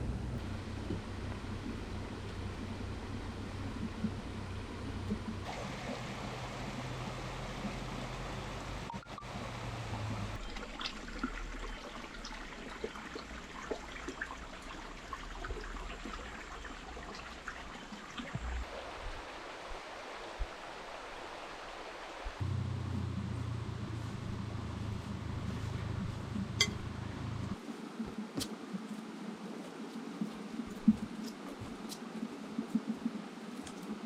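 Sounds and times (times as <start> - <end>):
river flowing: 0.4 - 28.0.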